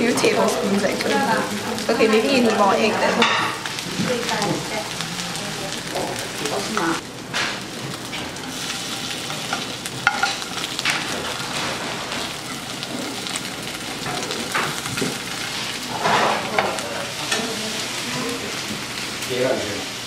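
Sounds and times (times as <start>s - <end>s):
pancake sizzling in oil: 0.0s - 20.0s.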